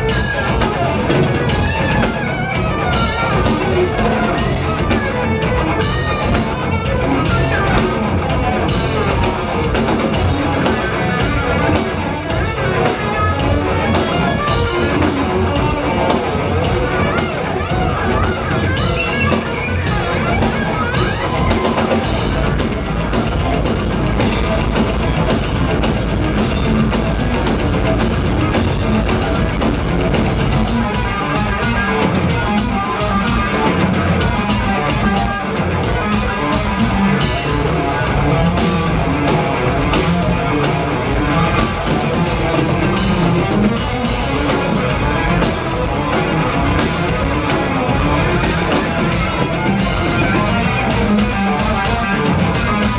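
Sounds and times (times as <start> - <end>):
live metal band playing: 0.0 - 52.9.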